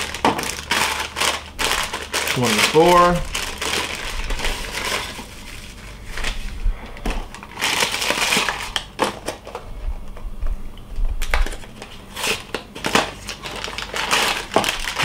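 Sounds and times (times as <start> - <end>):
cardboard tearing: 0.0 - 6.5, 7.3 - 9.4, 11.4 - 15.0
plastic bag crinkling: 0.0 - 9.7, 11.2 - 15.0.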